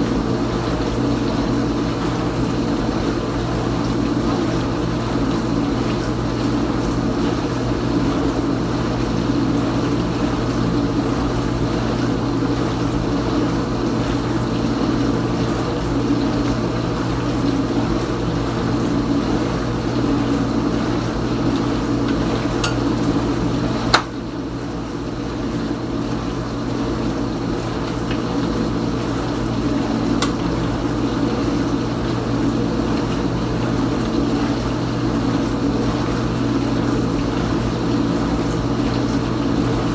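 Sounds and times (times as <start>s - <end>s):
dishwasher pump humming: 0.0s - 39.9s.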